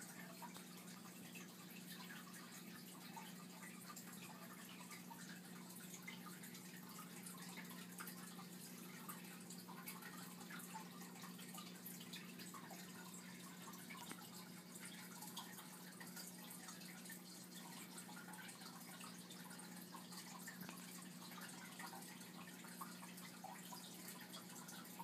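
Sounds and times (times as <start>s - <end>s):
aquarium water trickling and popping: 0.0s - 25.0s
low steady filter hum: 0.0s - 25.0s.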